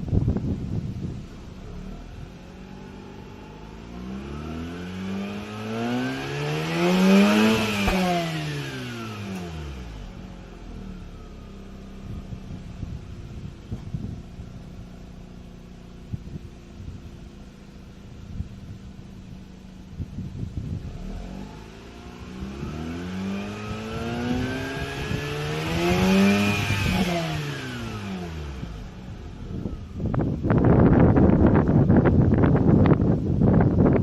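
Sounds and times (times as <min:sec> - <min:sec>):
rotary engine idling and revving: 0:00.0 - 0:34.0.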